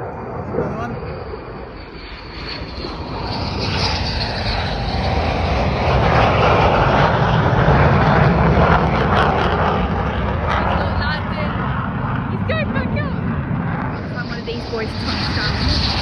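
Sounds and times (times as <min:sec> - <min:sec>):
fighter jet engine rumble: 0:00.0 - 0:16.0
high jet whine: 0:00.0 - 0:16.0.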